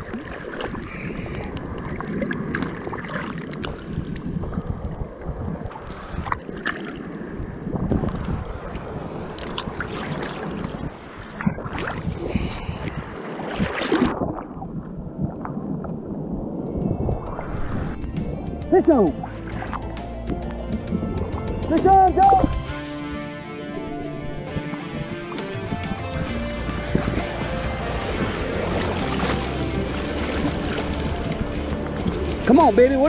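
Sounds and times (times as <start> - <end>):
surf sloshing and splashing: 0.0 - 33.0
wind buffeting microphone: 0.0 - 33.0.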